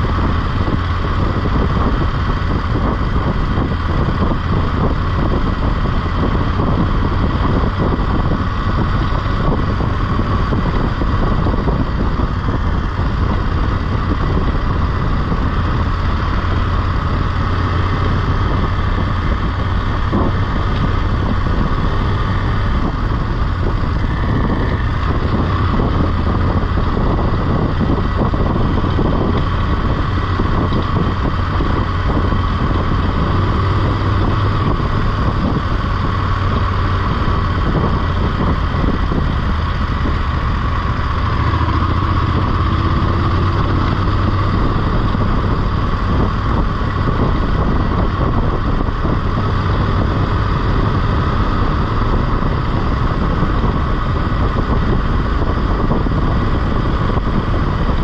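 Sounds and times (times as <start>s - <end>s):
motorcycle engine hum: 0.0s - 58.0s
wind rushing over microphone: 0.0s - 58.0s.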